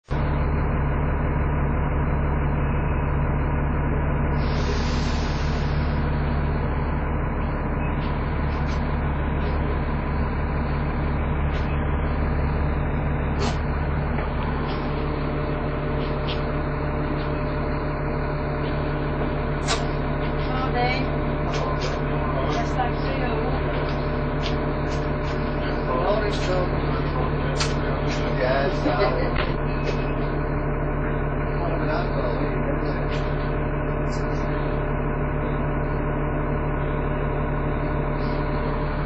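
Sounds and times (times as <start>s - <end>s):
bus diesel engine idling: 0.0s - 39.0s.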